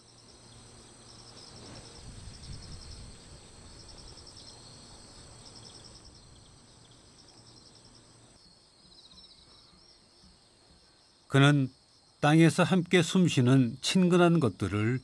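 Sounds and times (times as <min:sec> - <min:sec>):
insects chirping in trills: 0:00.0 - 0:15.0.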